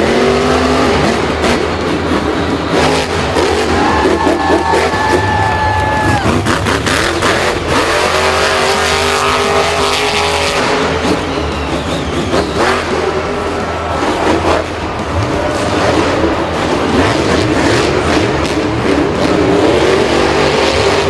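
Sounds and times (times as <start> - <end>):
racing vehicle engine revving: 0.0 - 21.0.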